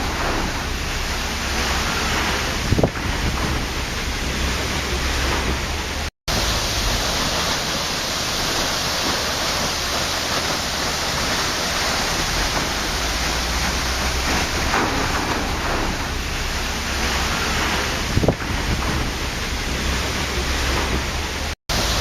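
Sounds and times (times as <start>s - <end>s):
waterfall hissing: 0.0s - 22.0s.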